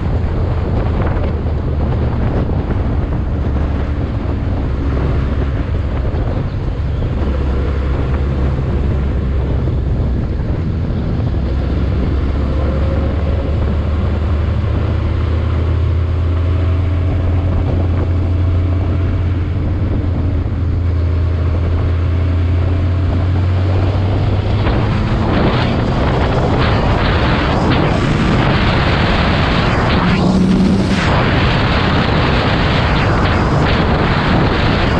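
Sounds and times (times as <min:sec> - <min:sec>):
rushing noise: 0:00.0 - 0:34.9
vehicle engine droning: 0:00.0 - 0:34.9
wind rumble on microphone: 0:00.0 - 0:34.9.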